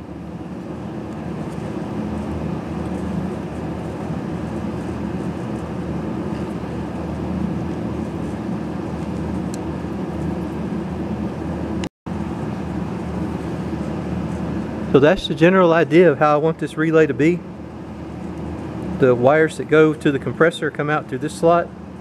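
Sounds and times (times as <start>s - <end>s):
heater droning: 0.0s - 22.0s.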